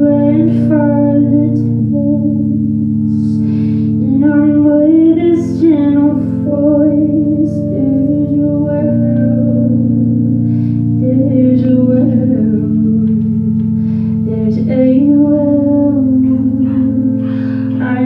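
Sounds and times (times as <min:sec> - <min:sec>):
held instrumental chords: 0:00.0 - 0:18.0
person singing: 0:00.0 - 0:18.0.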